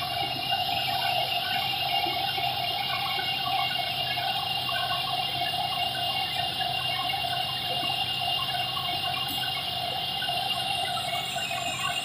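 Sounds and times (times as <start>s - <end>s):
high steady whine: 0.0s - 12.0s.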